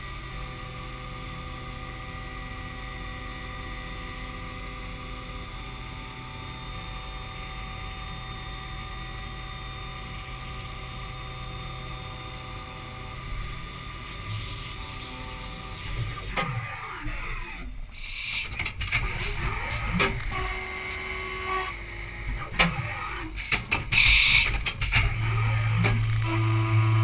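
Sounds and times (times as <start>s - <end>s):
milling machine whine: 0.0s - 27.0s.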